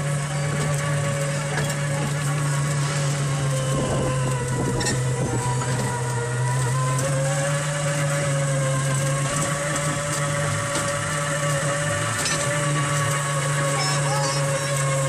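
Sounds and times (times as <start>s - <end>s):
ride-on toy car motor droning: 0.0s - 15.0s.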